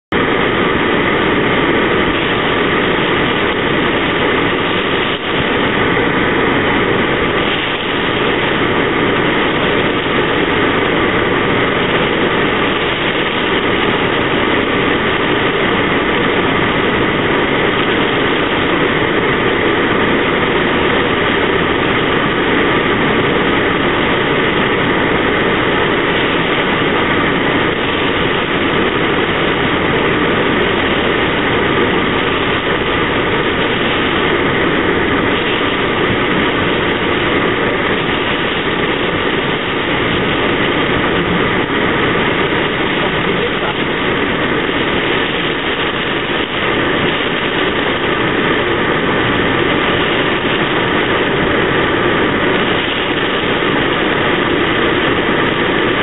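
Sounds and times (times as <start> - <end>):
rain drumming on car roof: 0.0 - 56.0.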